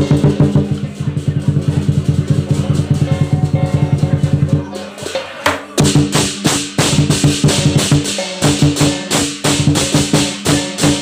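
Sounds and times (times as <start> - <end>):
booming drum beats: 0.0 - 11.0.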